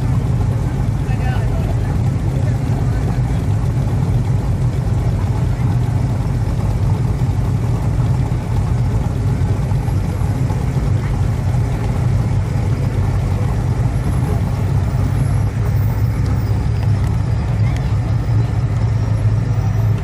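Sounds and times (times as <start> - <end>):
car exhaust rumble: 0.0 - 20.0.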